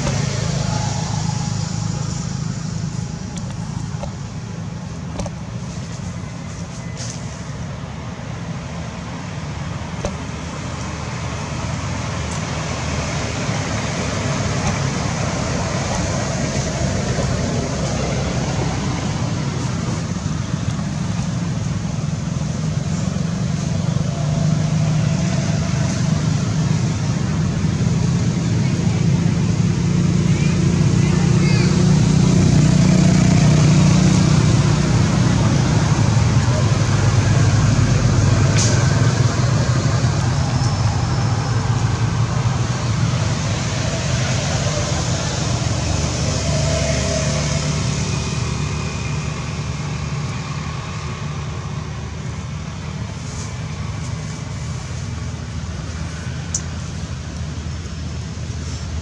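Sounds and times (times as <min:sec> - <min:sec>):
low rumbling background noise: 0:00.0 - 0:59.0.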